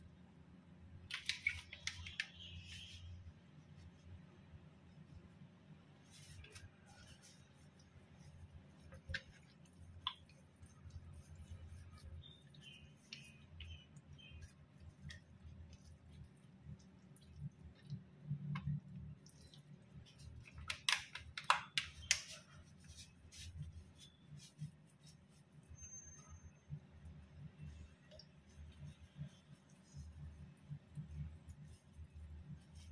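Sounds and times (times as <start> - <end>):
hands rubbing raw chicken: 1.0 - 25.8, 26.7 - 32.9.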